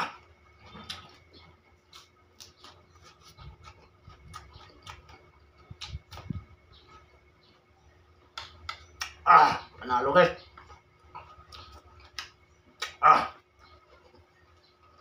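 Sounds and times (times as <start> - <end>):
chewing and lip-smacking: 0.2 - 9.2, 10.4 - 15.0.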